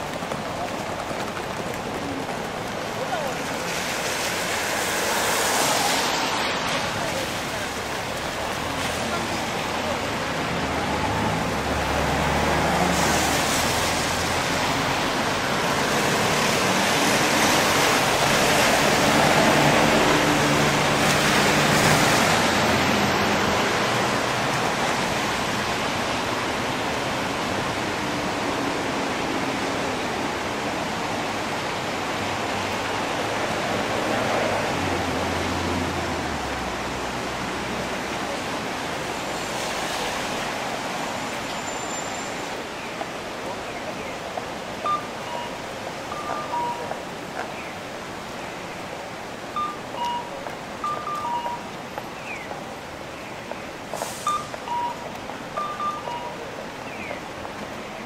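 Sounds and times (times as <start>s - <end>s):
low traffic rumble: 0.0s - 58.0s
rain hissing: 0.0s - 58.0s.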